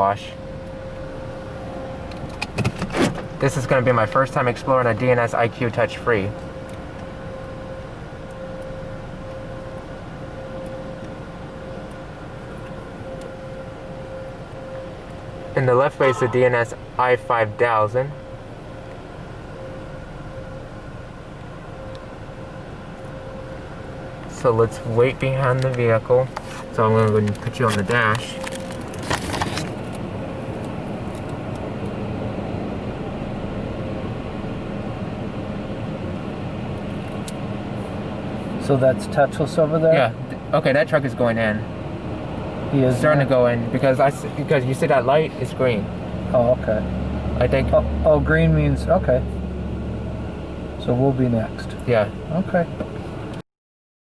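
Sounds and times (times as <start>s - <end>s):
car idling from inside cabin: 0.0s - 53.4s
mechanical hum: 0.0s - 53.4s.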